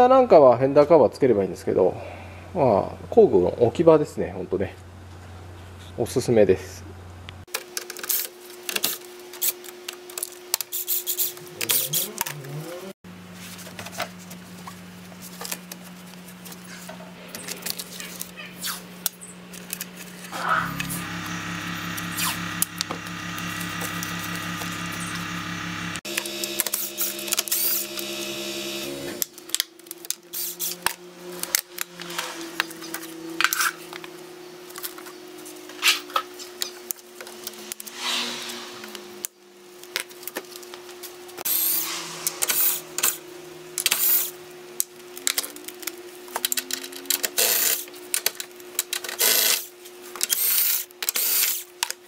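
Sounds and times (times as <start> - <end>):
steady mechanical hum: 0.0 - 52.0.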